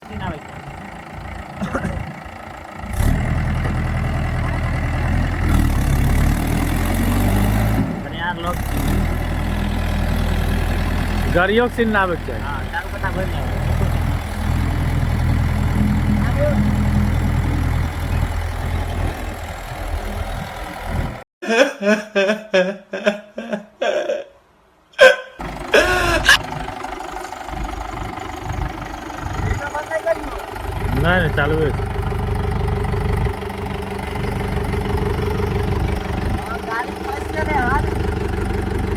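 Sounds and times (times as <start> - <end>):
tractor diesel engine running: 0.0 - 21.3, 25.4 - 38.9.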